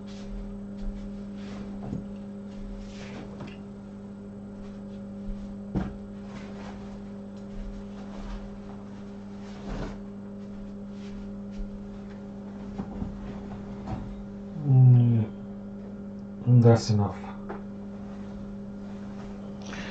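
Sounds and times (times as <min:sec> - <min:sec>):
electrical hum: 0:00.0 - 0:19.9.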